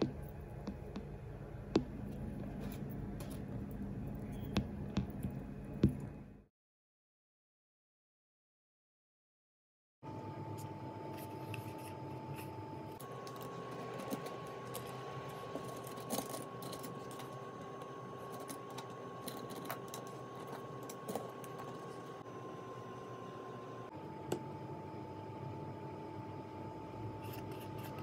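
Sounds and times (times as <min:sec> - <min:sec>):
steady hum: 0:00.0 - 0:06.5, 0:10.1 - 0:28.0.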